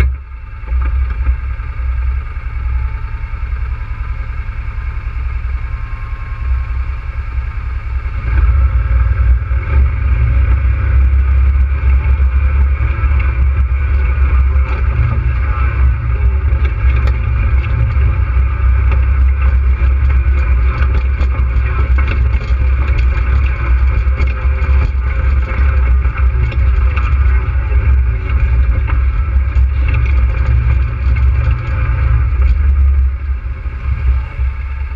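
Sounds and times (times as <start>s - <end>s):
quad bike engine rumbling: 0.0s - 34.9s.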